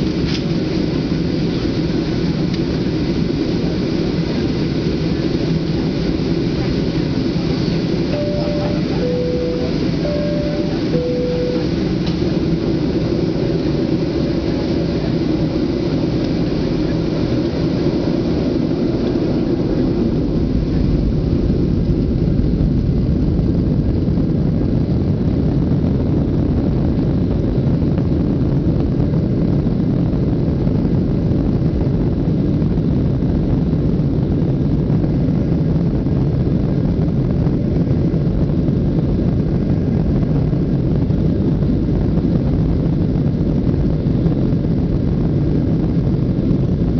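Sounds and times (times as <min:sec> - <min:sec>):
jet engines rumbling in cabin: 0:00.0 - 0:46.9.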